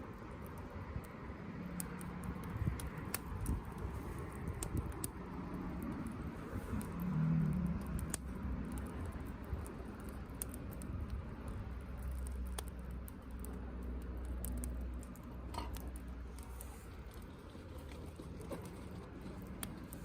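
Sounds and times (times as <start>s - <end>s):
wood fire crackling and popping: 0.0s - 20.0s
low steady rumble: 2.2s - 20.0s.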